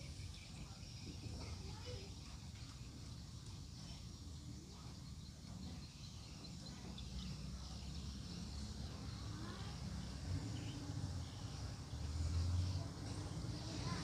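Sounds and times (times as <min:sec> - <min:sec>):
birds chirping: 0:00.0 - 0:14.0
faint hum: 0:00.0 - 0:14.0
low engine rumble: 0:00.0 - 0:14.0.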